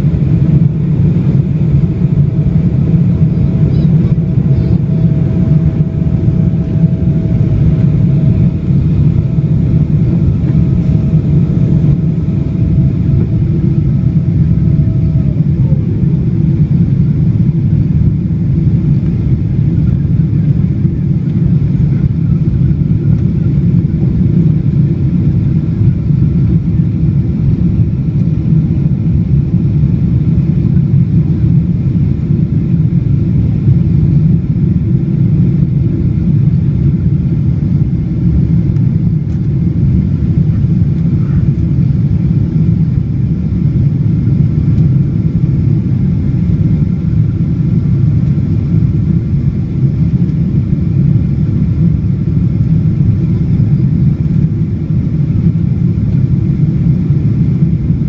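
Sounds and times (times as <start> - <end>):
aircraft cabin engine rumble: 0.0 - 58.0.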